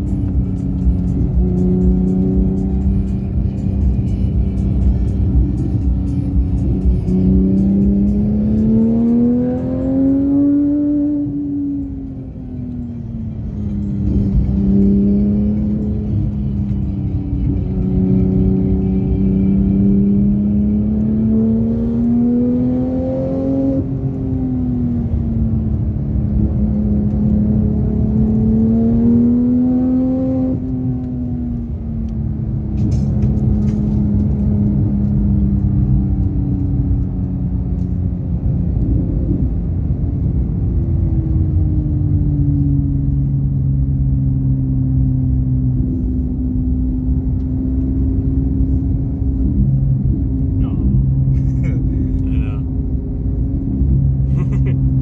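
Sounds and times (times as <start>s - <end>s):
car engine accelerating: 0.0s - 55.0s
low road rumble: 0.0s - 55.0s.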